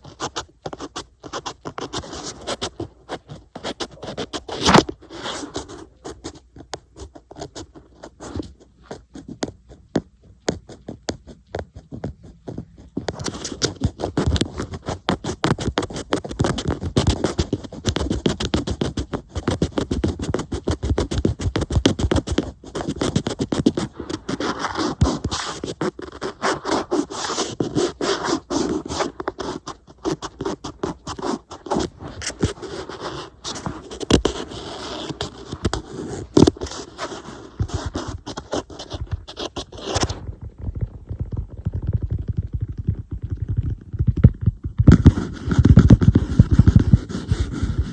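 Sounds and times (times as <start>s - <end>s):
rapid scratching strokes on tablet: 0.0s - 40.2s, 41.8s - 47.9s.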